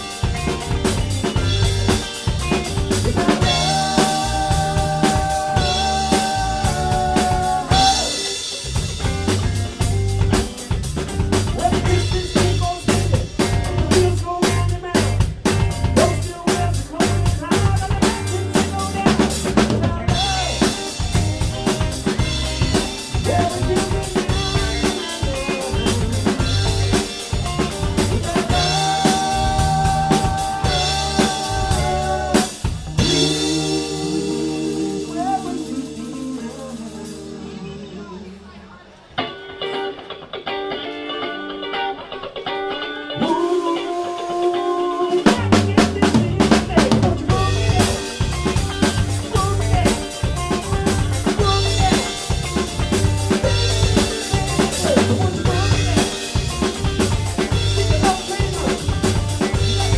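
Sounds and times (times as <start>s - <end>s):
drum kit beat: 0.0s - 37.9s, 42.1s - 59.9s
bass guitar: 0.0s - 38.4s, 39.2s - 59.9s
electric guitars: 0.0s - 59.9s
live rock band playing: 0.0s - 59.9s.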